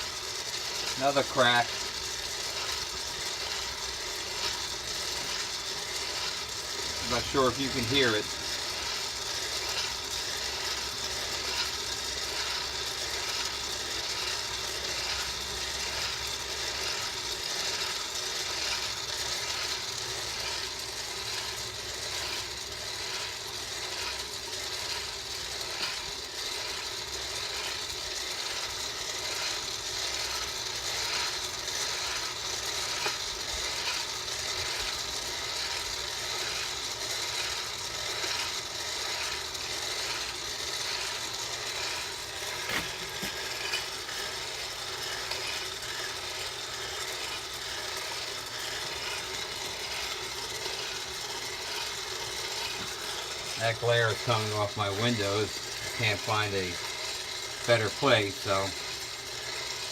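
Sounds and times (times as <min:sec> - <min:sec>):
coffee beans rattling: 0:00.0 - 0:59.9
coffee roaster hissing: 0:00.0 - 0:59.9.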